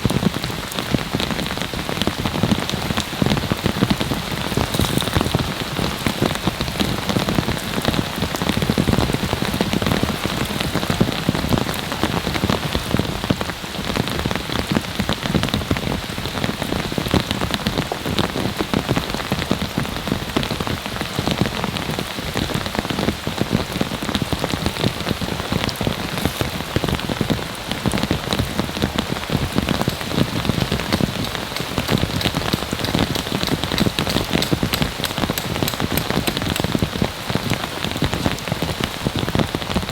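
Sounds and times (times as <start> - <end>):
heavy rain on a tarp: 0.0 - 39.9.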